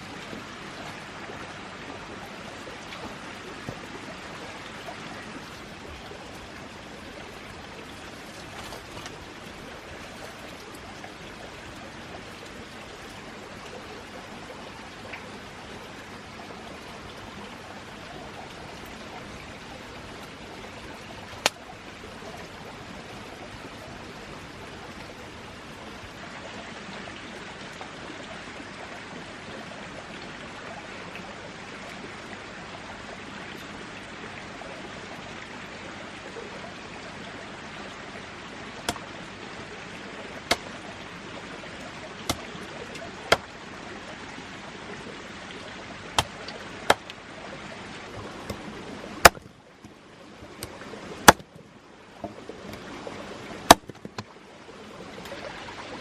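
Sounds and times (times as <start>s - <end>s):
flowing water rushing: 0.0s - 56.0s.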